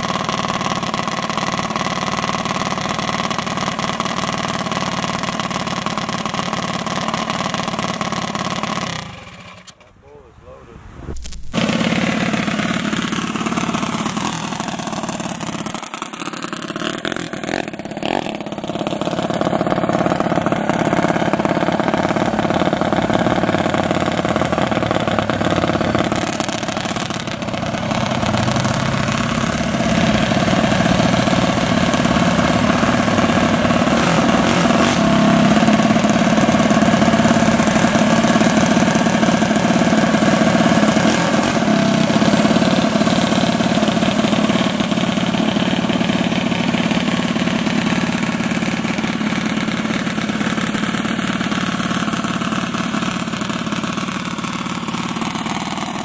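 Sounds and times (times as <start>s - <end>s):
racing car engines idling: 0.0s - 56.0s.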